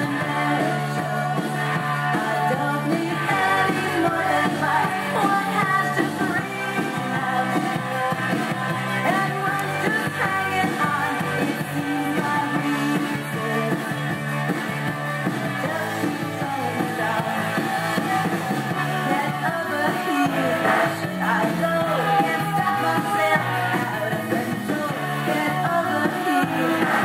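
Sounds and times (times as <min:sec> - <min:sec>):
rock song with singing: 0:00.0 - 0:27.0.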